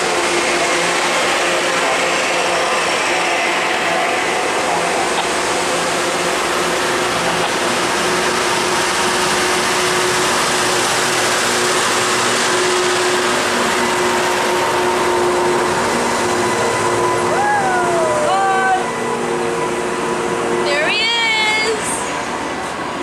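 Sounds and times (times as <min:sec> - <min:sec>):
rail grinder train passing: 0:00.0 - 0:23.0.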